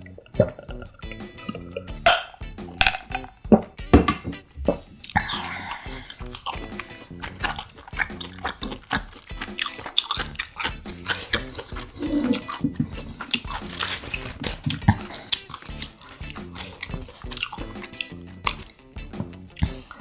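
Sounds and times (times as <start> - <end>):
wet chewing and lip smacks: 0.0 - 3.4, 4.6 - 20.0
background music: 0.0 - 20.0.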